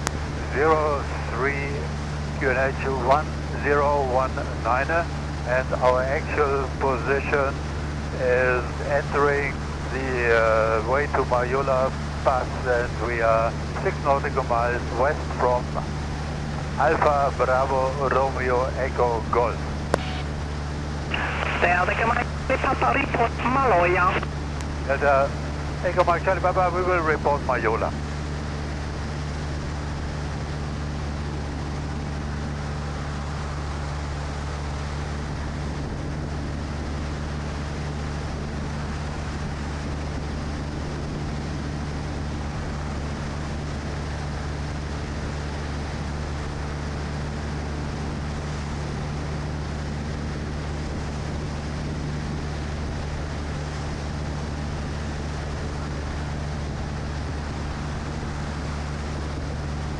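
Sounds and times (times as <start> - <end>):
airplane engine droning: 0.0 - 59.9.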